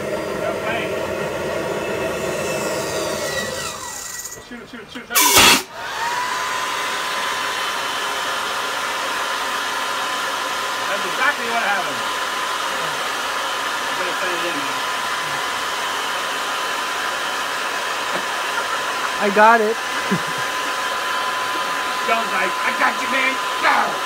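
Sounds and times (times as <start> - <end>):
jet turbine burst: 0.0 - 4.4, 5.2 - 24.0
jet turbine whine: 0.0 - 4.4, 5.2 - 24.0.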